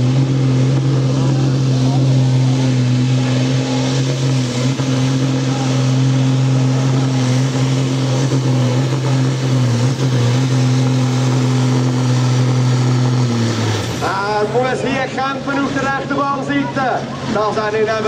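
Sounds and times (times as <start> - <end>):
tractor diesel engine at high revs: 0.0 - 18.0.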